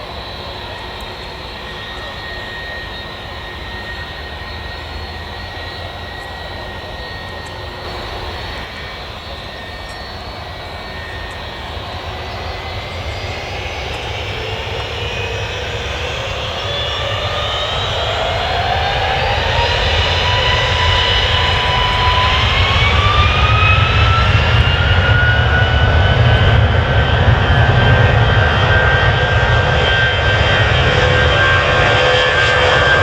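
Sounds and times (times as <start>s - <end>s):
jet engine whine: 0.0s - 33.0s
jet engines rushing: 0.0s - 33.0s.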